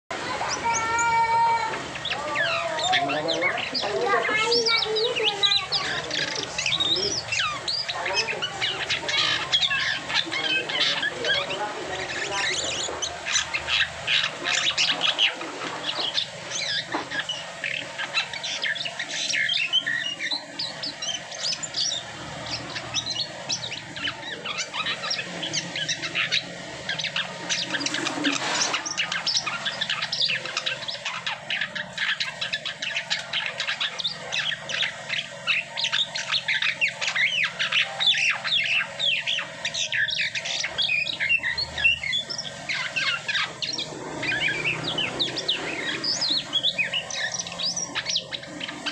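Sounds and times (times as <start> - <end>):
starling singing: 0.1 - 48.9.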